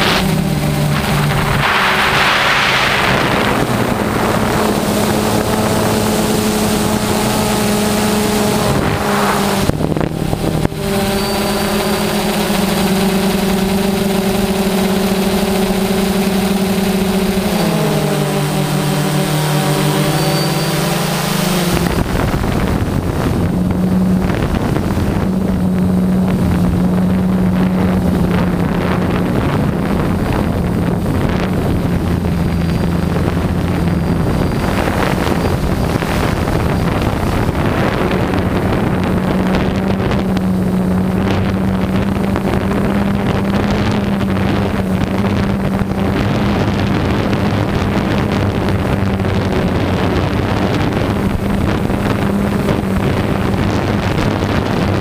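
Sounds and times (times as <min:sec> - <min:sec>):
drone propellers humming: 0:00.0 - 0:55.0
wind buffeting microphone: 0:00.0 - 0:55.0.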